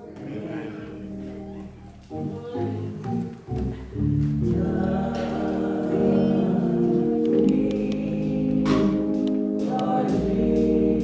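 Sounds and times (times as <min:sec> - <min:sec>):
choir singing: 0:00.0 - 0:11.0
organ and keyboard chords: 0:00.0 - 0:11.0.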